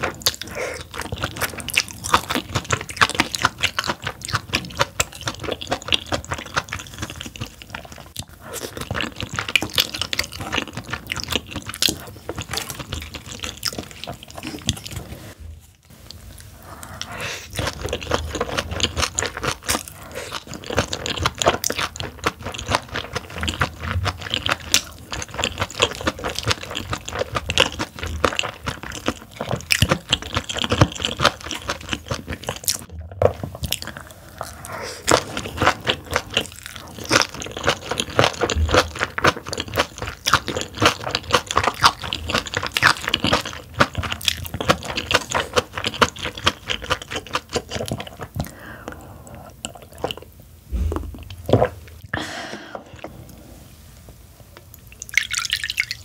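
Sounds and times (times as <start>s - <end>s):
chewing and crunching food: 0.0s - 53.4s.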